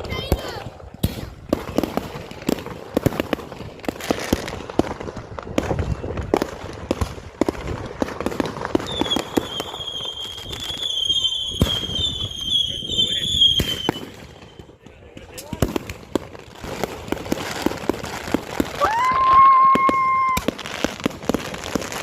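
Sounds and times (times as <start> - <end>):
fireworks bangs and crackling pops: 0.0 - 22.0.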